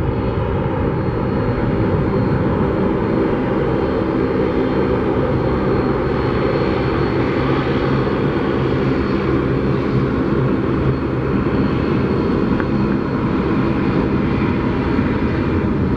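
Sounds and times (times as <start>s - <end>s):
high engine whine: 0.0s - 15.9s
jet engines roaring: 0.0s - 15.9s.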